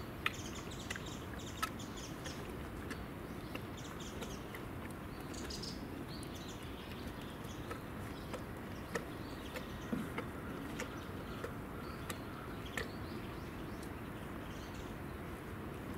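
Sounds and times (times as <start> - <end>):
outdoor background: 0.0 - 15.9
horse chewing feed: 0.2 - 14.4.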